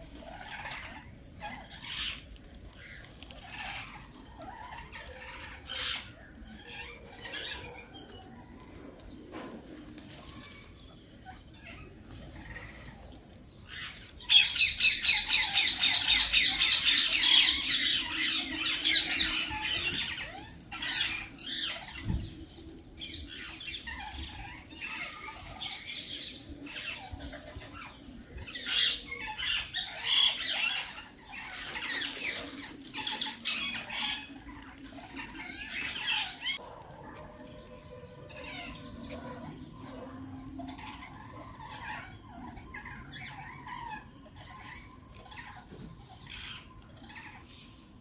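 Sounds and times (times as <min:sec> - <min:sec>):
birds squawking and chattering: 0:00.0 - 0:48.0.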